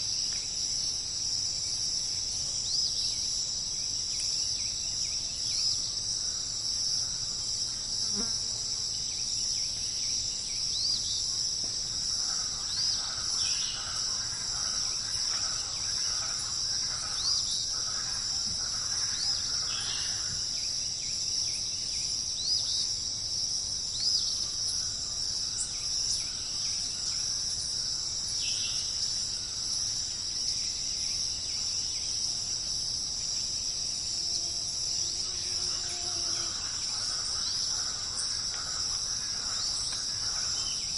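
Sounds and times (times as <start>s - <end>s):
insects stridulating: 0.0s - 40.9s.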